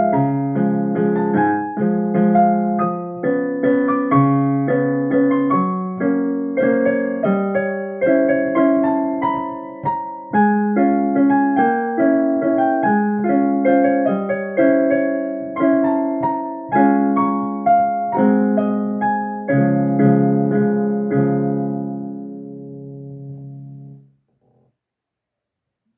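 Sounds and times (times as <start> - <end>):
solo piano playing: 0.0 - 24.2.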